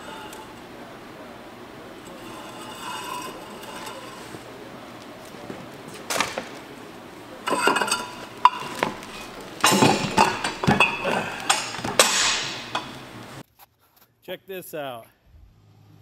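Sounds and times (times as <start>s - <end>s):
heavy iron liners clanking: 0.0s - 13.4s.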